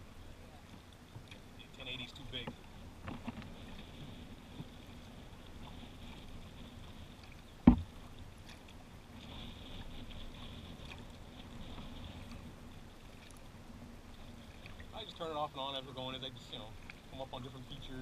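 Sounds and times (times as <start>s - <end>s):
kayak paddling on water: 0.0s - 18.0s.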